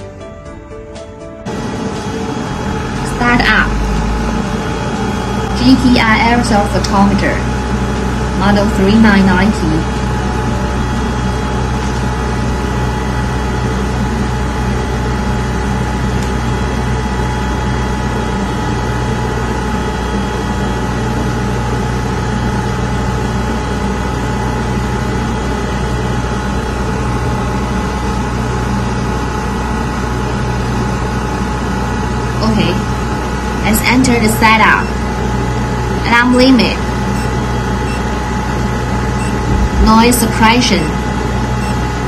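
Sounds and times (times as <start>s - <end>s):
machine pump and fan humming: 1.4s - 42.0s
constant whining tones: 1.5s - 42.0s.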